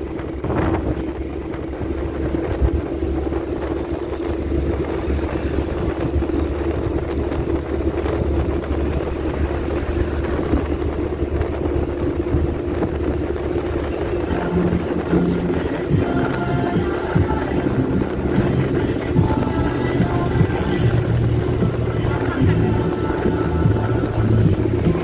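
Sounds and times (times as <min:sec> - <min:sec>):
constant hum: 0:00.0 - 0:25.0
engine and tyre rumble: 0:00.0 - 0:25.0
wind rushing past: 0:00.0 - 0:25.0.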